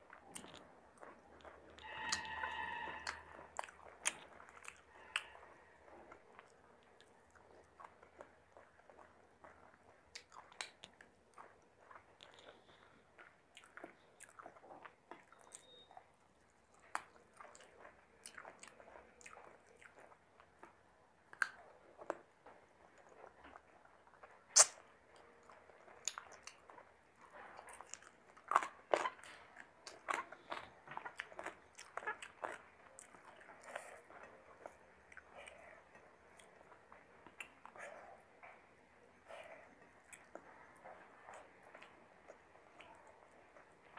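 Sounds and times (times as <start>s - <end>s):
person chewing: 0.0s - 43.9s
mouth clicks and smacks: 3.0s - 43.9s.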